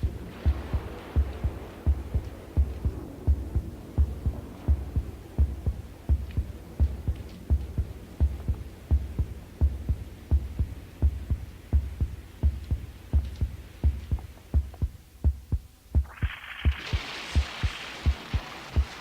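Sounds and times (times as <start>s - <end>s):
heartbeat thumps: 0.0s - 19.0s
hiss: 0.0s - 19.0s.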